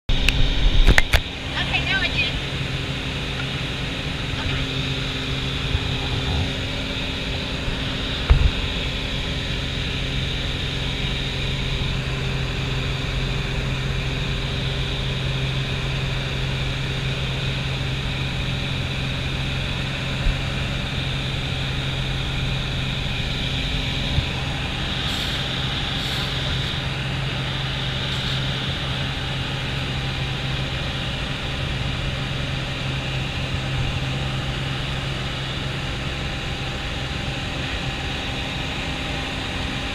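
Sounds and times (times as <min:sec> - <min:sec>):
small plane engine drone: 0:00.1 - 0:39.9.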